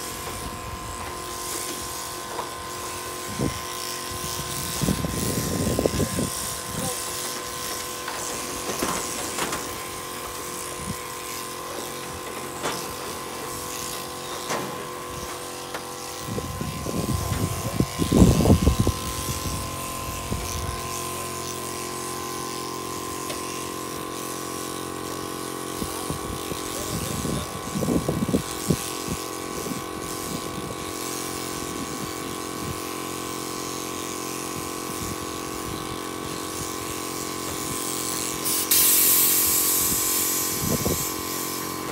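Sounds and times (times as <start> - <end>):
electric sheep shears running: 0.0 - 41.9.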